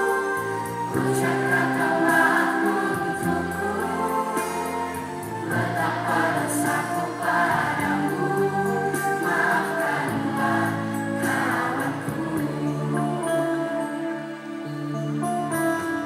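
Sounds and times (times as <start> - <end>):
children's choir singing: 0.0 - 14.6
sustained accompaniment chords: 0.0 - 16.0.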